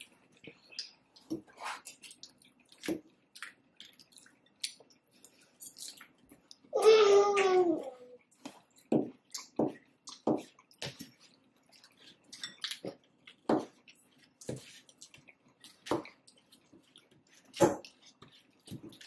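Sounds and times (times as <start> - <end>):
person chewing food: 0.0 - 6.7, 8.2 - 19.0.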